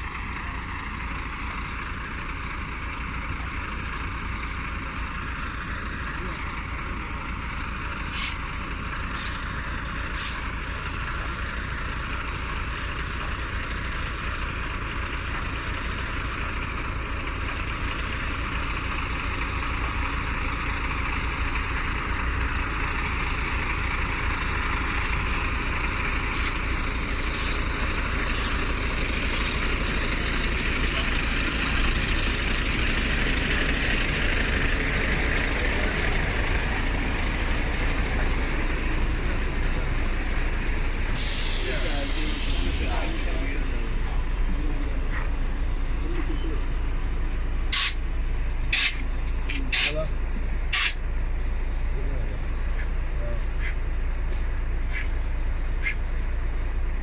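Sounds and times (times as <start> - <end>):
diesel vehicle idling: 0.0 - 57.0.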